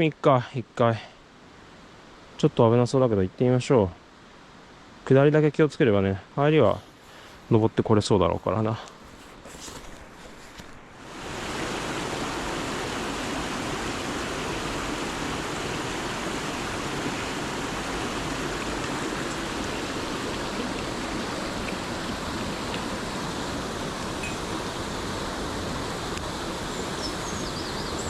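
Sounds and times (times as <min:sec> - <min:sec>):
stream water rushing: 0:04.0 - 0:28.0.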